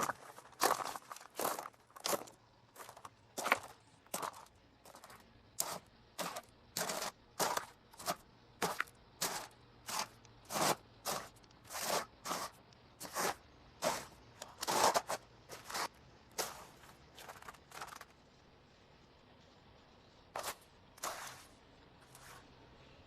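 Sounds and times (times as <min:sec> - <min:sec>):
crunching footsteps: 0:00.0 - 0:18.2, 0:20.4 - 0:22.5.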